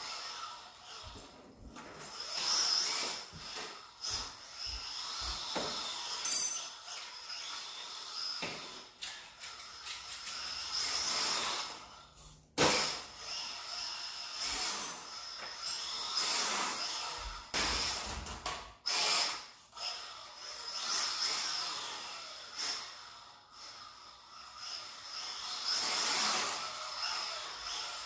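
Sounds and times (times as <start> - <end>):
toy car motor whirring: 0.0 - 28.0.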